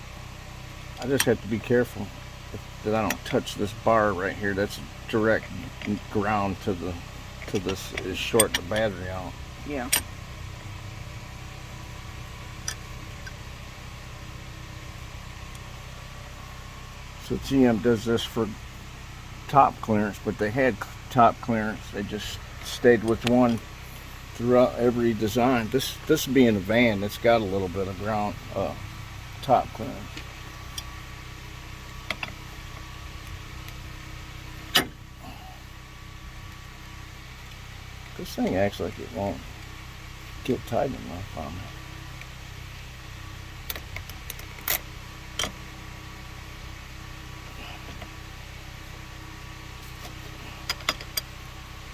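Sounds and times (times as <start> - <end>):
low machine hum: 0.0 - 51.9.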